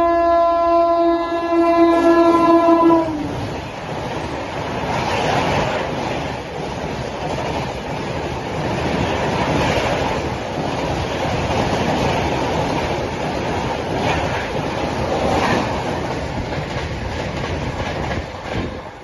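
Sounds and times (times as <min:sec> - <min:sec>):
train coaches passing at speed: 0:00.0 - 0:19.0.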